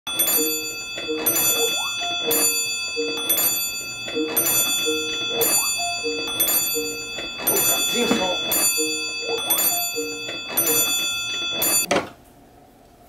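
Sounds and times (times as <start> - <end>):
repeating lower tones: 0.1 - 11.9
telephone bells ringing: 0.1 - 11.9.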